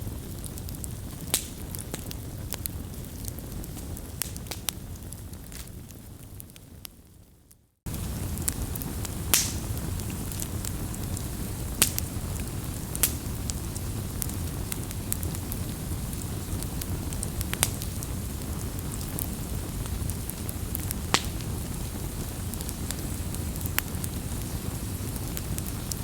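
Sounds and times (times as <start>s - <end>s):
campfire crackling: 0.0s - 7.2s, 7.9s - 26.0s
sharp fire pops: 0.1s - 6.6s, 7.9s - 26.0s.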